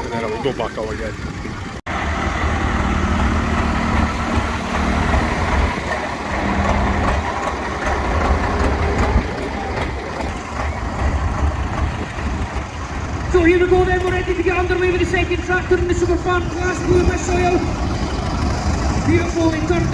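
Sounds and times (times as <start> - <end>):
heavy vehicle engine idling: 0.0 - 19.9.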